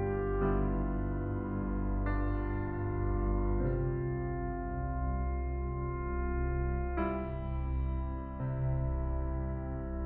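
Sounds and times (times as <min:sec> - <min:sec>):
held keyboard chords: 0:00.0 - 0:10.0.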